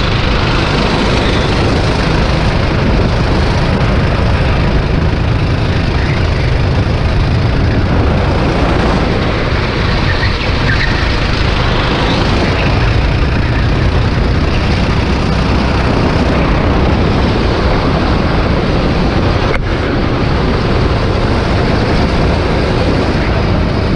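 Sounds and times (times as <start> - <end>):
kart engine running at speed: 0.0 - 23.9.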